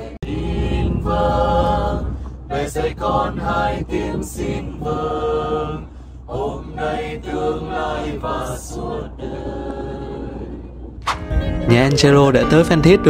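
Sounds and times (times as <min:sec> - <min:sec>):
group chanting a prayer: 0:00.0 - 0:10.7
low vehicle rumble: 0:00.0 - 0:13.0.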